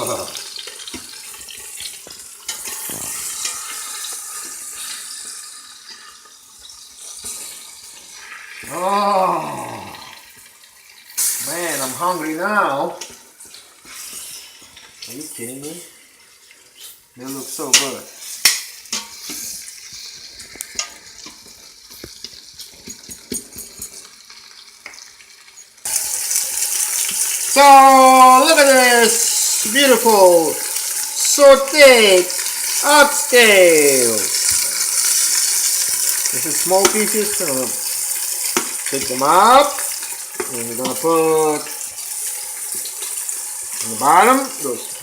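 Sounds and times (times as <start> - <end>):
meat sizzling: 0.0 - 45.0.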